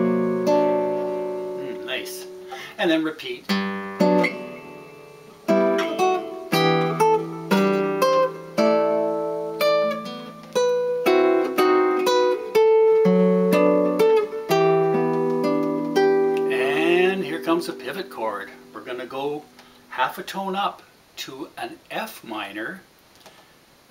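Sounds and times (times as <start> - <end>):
solo jazz guitar chords: 0.0 - 20.1.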